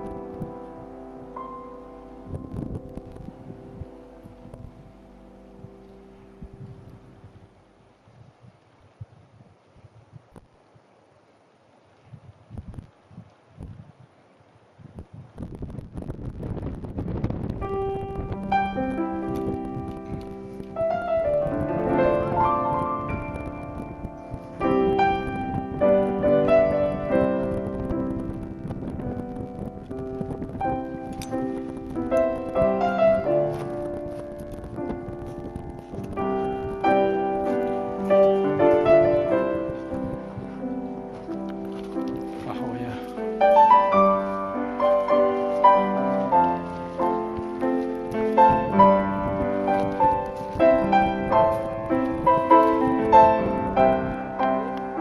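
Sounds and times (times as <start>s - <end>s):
piano music: 0.0s - 8.0s, 17.2s - 55.0s.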